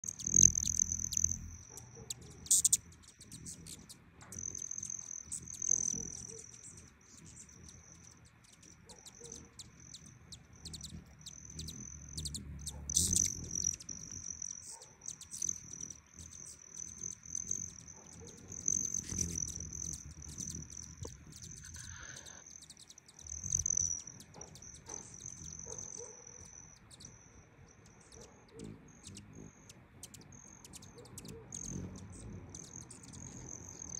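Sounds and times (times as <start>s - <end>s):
hummingbird wing trill: 0.0s - 27.2s, 27.8s - 33.9s.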